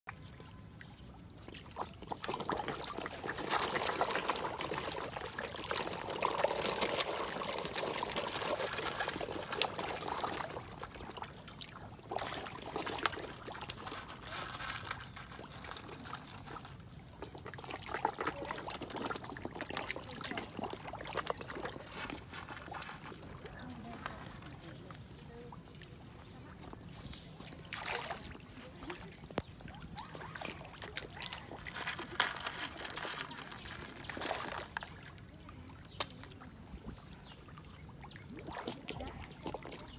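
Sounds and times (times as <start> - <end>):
fish splashing at water surface: 1.5 - 25.1, 26.5 - 39.9.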